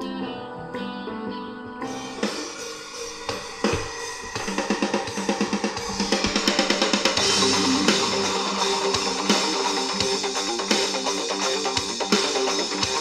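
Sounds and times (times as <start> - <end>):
heavy metal song on speaker: 1.8 - 13.0.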